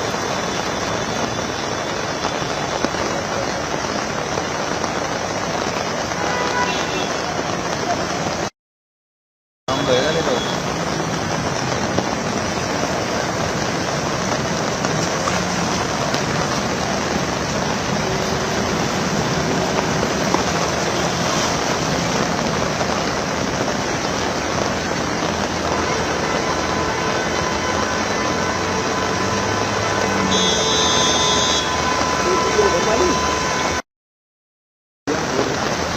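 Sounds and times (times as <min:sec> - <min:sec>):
heavy rain on road: 0:00.0 - 0:08.5, 0:09.7 - 0:33.8, 0:35.1 - 0:35.9.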